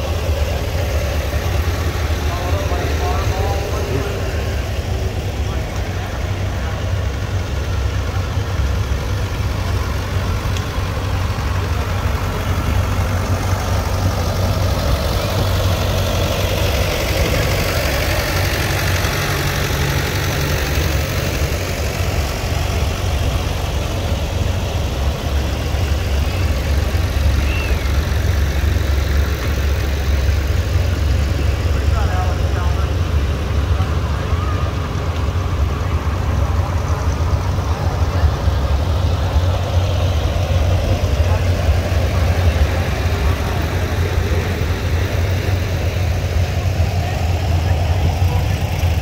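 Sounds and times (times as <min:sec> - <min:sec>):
tractor engines running: 0:00.0 - 0:49.0.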